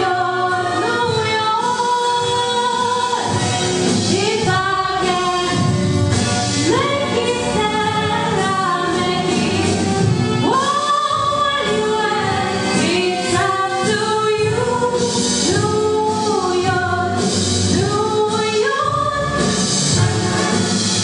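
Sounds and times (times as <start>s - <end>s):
woman singing: 0.0s - 6.0s, 6.6s - 19.8s
musical accompaniment: 0.0s - 21.0s.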